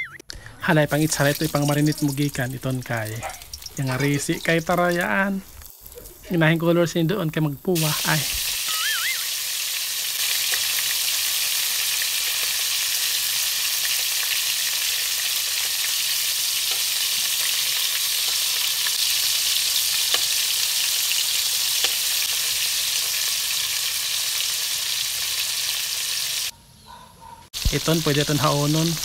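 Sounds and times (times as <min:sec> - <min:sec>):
shrimp sizzling in hot oil: 0:00.8 - 0:26.5, 0:27.6 - 0:29.0.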